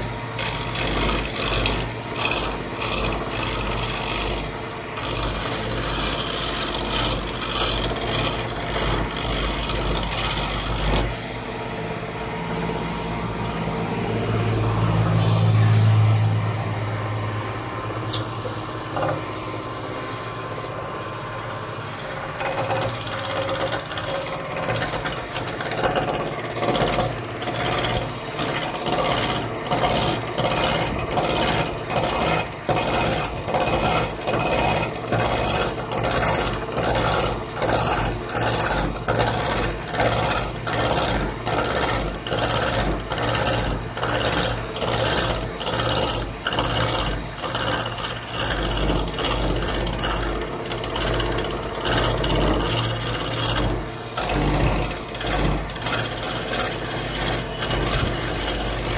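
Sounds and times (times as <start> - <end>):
chisel scraping wood on lathe: 0.0 - 11.4, 18.0 - 19.4, 21.8 - 58.9.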